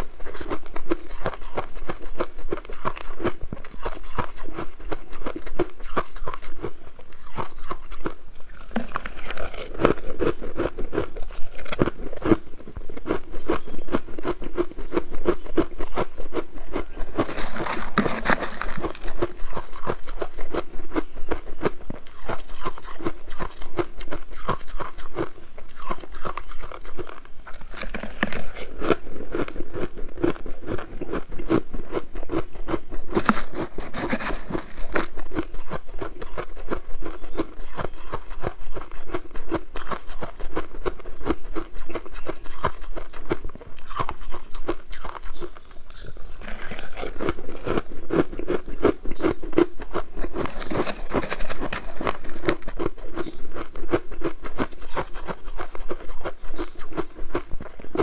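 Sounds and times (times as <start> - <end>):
shaved ice crunching: 0.0 - 12.4, 15.4 - 20.6, 22.0 - 31.2, 31.9 - 40.7, 41.6 - 49.0, 49.6 - 57.4.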